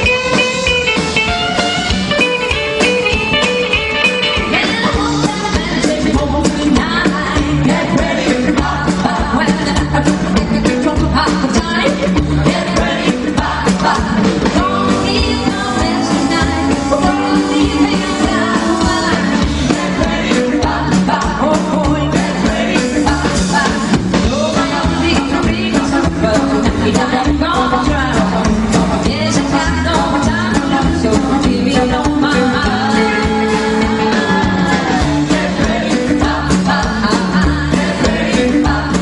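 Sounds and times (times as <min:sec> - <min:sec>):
rockabilly band playing: 0:00.0 - 0:39.0
person singing: 0:04.3 - 0:39.0.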